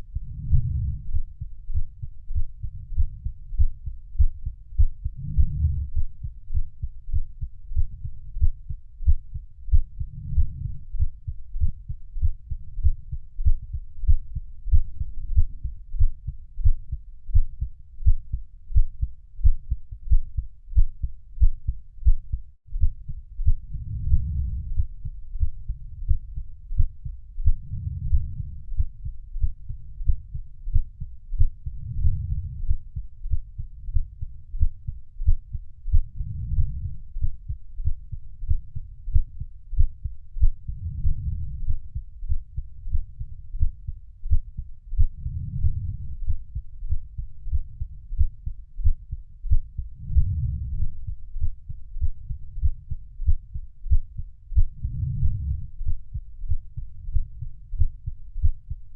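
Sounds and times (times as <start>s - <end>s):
heartbeat thumps: 0.0s - 58.8s.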